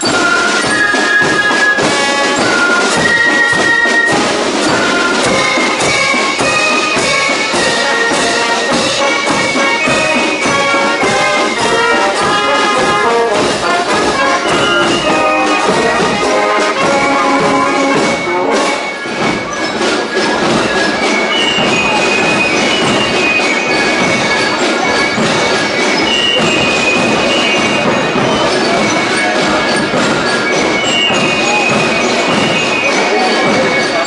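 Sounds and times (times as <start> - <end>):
brass marching band playing: 0.0 - 34.0.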